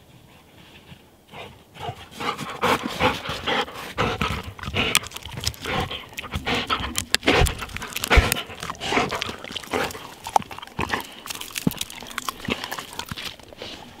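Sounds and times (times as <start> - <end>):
dog panting and sniffing: 1.3 - 14.0.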